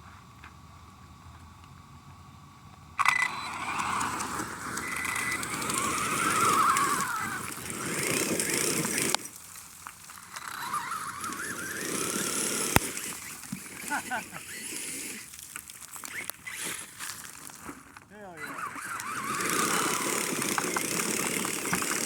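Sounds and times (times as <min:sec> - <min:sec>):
electric motor whine: 0:00.0 - 0:22.0
tyres on gravel: 0:03.0 - 0:22.0.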